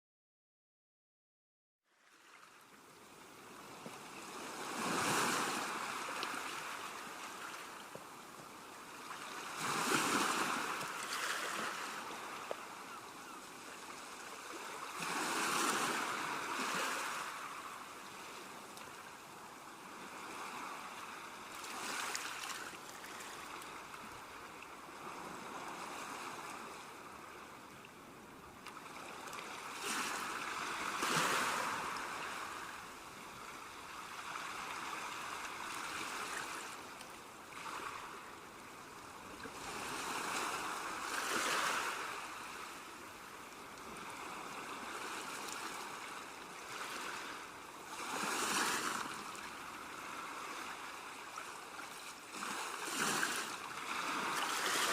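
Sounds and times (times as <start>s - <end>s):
waves washing onto shore: 2.2s - 54.9s.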